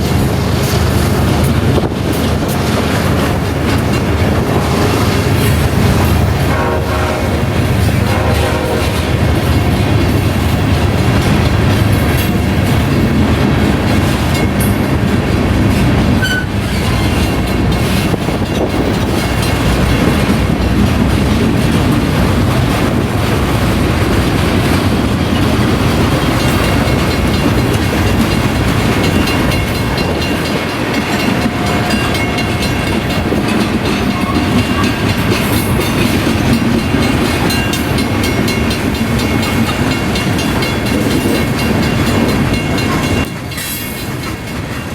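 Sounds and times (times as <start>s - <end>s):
train wheels rumbling on rail: 0.0s - 44.9s
wheels clacking over rail joints: 0.0s - 44.9s.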